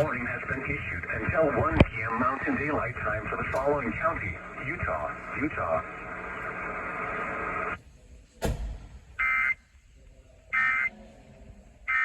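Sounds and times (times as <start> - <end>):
radio hiss: 0.0 - 8.0, 9.2 - 11.0.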